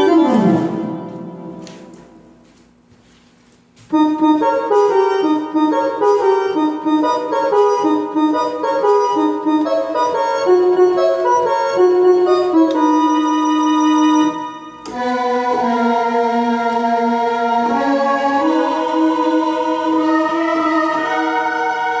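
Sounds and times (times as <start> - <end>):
synthesizer organ melody: 0.0 - 2.5, 3.9 - 22.0.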